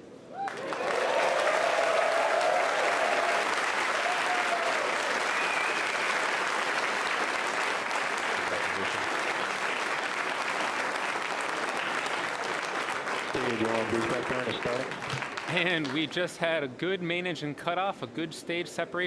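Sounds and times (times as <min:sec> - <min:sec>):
crowd applauding and cheering: 0:00.3 - 0:16.3.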